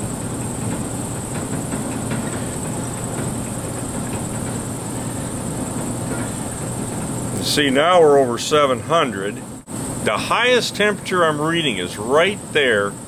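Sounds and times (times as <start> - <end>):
gas furnace rumbling hum: 0.0 - 13.0.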